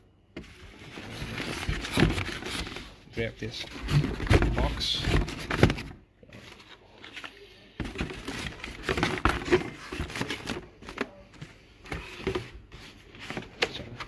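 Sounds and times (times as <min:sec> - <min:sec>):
cardboard box rustling and scraping: 0:00.4 - 0:11.1, 0:11.8 - 0:14.0.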